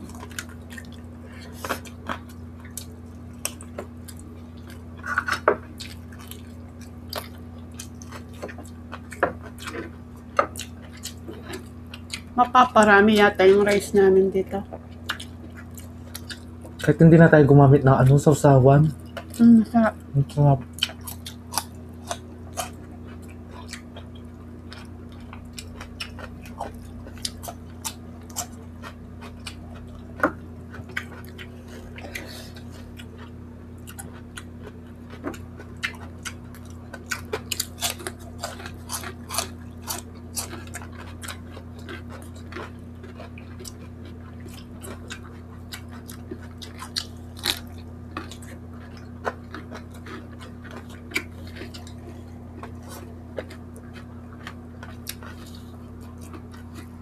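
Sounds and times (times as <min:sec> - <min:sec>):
people chewing and lip-smacking: 0:00.0 - 0:12.9, 0:14.5 - 0:17.1, 0:18.0 - 0:57.0
steady low hum: 0:00.0 - 0:57.0.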